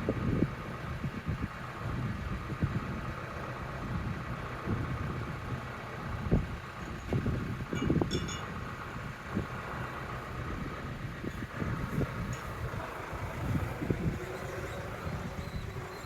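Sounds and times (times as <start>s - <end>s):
wind buffeting microphone: 0.0s - 16.0s
vehicle engine running: 1.7s - 16.0s.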